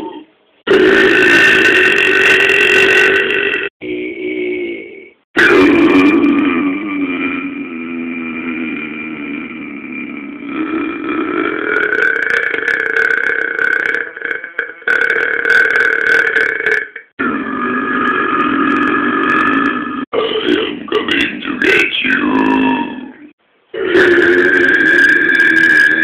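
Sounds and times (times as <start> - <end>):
person belching loudly: 0.0 - 23.2, 23.8 - 26.0.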